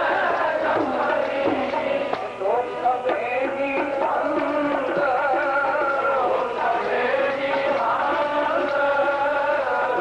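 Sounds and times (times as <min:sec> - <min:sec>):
man singing devotional melody: 0:00.0 - 0:10.0.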